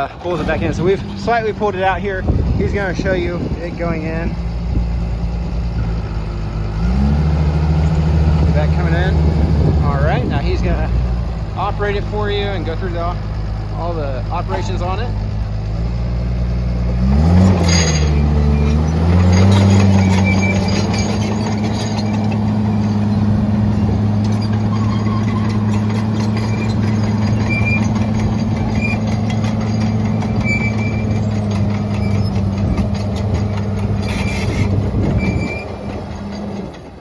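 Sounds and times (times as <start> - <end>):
steel tracks clanking and squealing: 0.0 - 4.6, 5.7 - 16.0, 17.0 - 37.0
diesel engine under load: 0.0 - 37.0.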